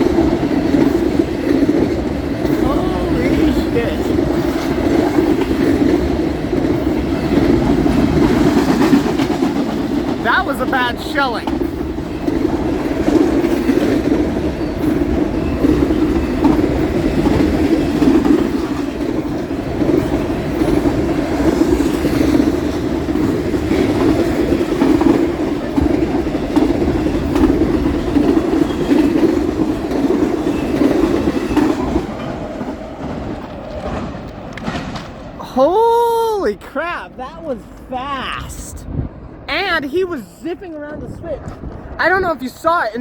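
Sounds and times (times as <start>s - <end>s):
freight train wheels rumbling on rail: 0.0s - 43.0s.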